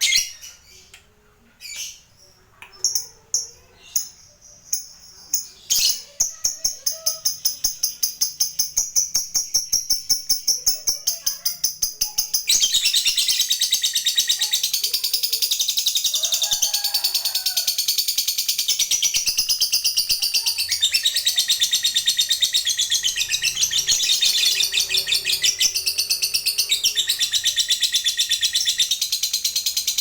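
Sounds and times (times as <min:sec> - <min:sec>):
lovebird chirping and trilling: 0:00.0 - 0:00.9, 0:02.8 - 0:16.6, 0:17.7 - 0:30.0.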